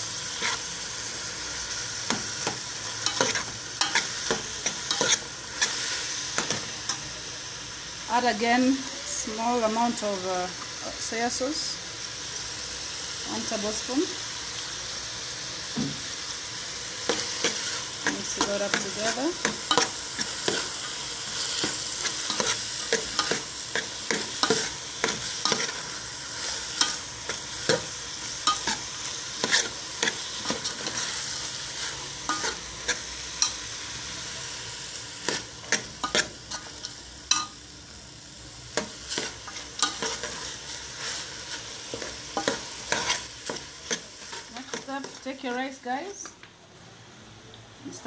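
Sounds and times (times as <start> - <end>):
food sizzling in oil: 0.0 - 46.4.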